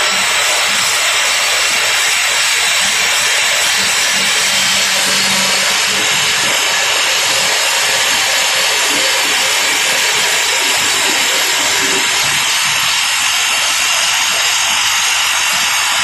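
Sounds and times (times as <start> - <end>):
hydraulic rock drill drilling: 0.0 - 16.0.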